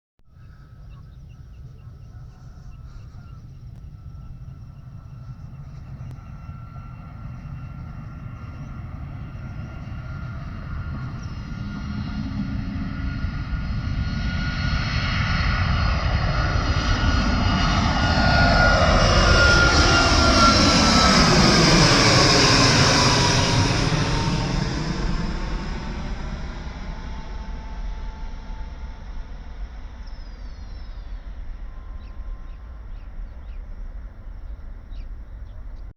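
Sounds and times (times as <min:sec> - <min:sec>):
jet airliner taking off: 0:01.6 - 0:35.4.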